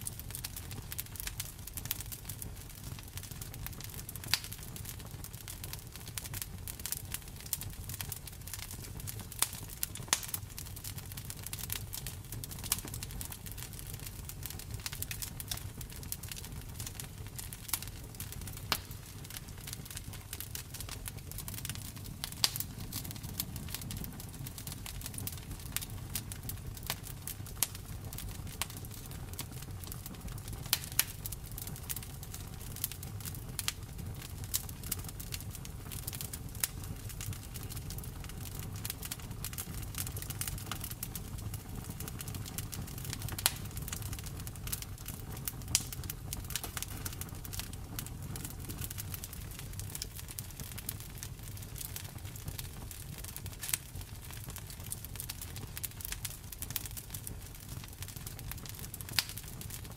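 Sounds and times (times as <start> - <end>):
low rumble of flames: 0.0 - 59.9
campfire pops and snaps: 0.3 - 5.5, 6.2 - 59.9.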